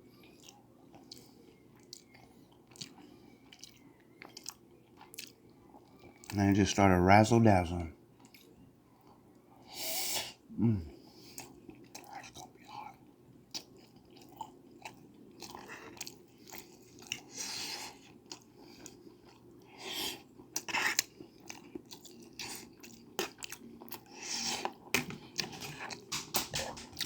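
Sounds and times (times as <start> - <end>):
person chewing food: 0.0 - 6.4, 8.2 - 9.4, 10.7 - 27.0.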